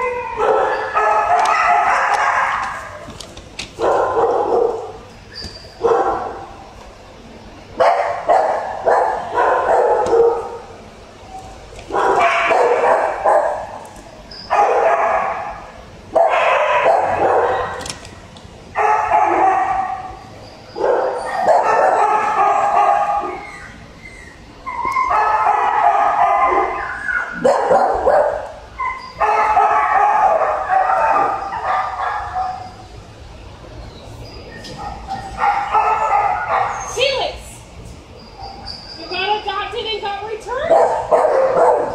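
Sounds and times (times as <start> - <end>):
dogs barking: 0.0 - 3.1, 3.7 - 6.7, 7.8 - 10.9, 11.8 - 17.9, 18.7 - 33.0, 34.3 - 37.2, 40.5 - 41.9.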